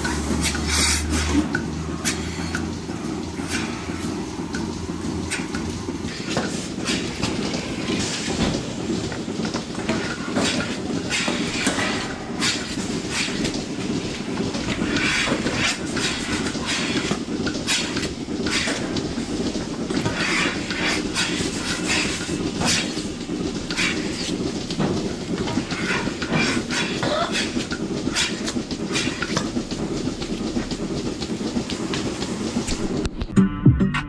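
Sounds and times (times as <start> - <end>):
milking units hissing and clacking: 0.0 - 33.2
machinery low rumble: 0.0 - 34.0.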